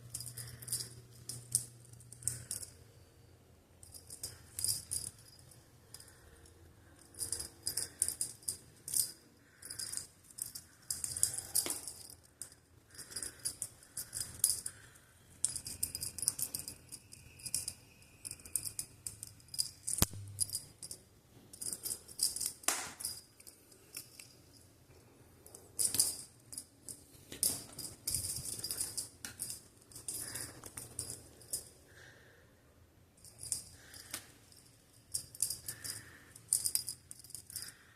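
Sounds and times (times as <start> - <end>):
jingle bell rattling: 0.0 - 3.0, 3.8 - 24.8, 25.4 - 32.4, 33.2 - 37.9.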